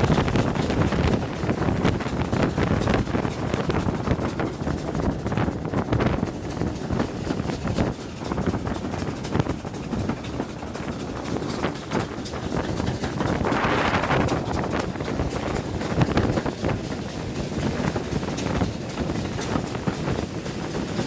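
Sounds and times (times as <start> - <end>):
train rumble: 0.0 - 21.0
wheels clattering on rails: 0.0 - 21.0
wind buffeting microphone: 0.0 - 21.0.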